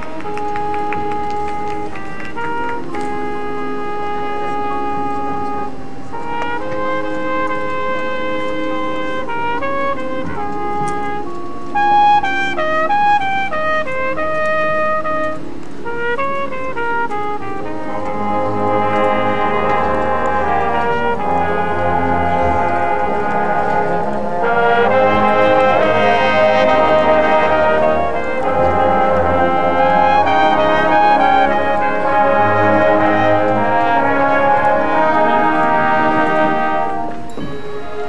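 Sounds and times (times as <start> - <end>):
marching band brass chords: 0.0 - 38.0.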